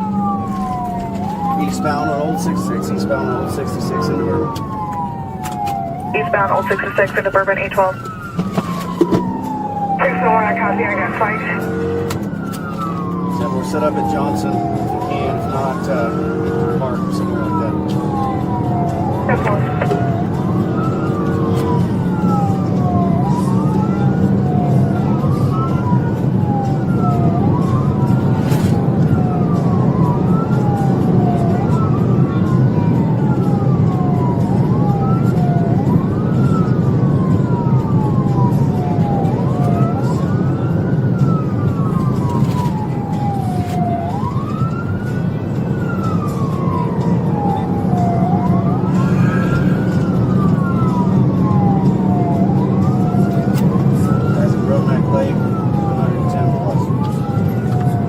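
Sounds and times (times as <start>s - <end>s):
police siren wailing: 0.0s - 58.0s
vehicle engine and road noise: 0.0s - 58.0s.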